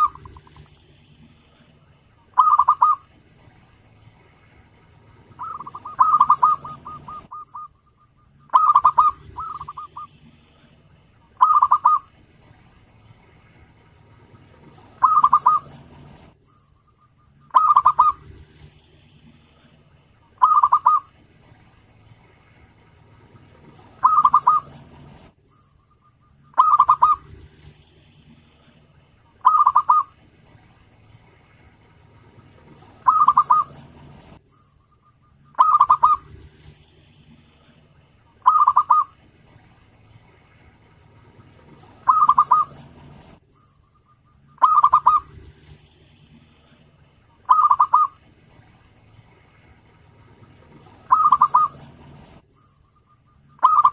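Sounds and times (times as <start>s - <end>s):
dove cooing: 0.0s - 3.6s, 4.8s - 12.7s, 13.3s - 21.6s, 22.2s - 53.9s.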